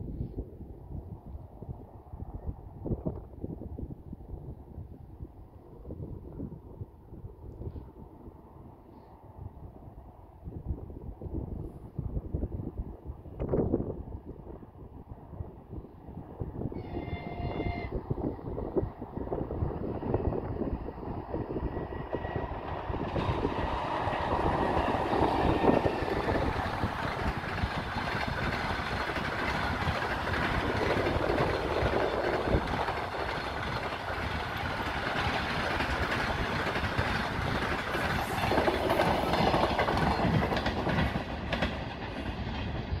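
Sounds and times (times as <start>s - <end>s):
train rumbling past: 0.0s - 43.0s.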